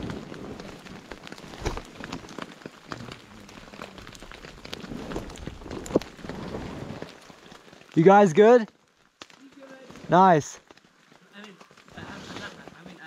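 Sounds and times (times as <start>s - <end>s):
rain falling into puddles: 0.0s - 13.0s
sharp raindrop ticks: 0.0s - 13.0s.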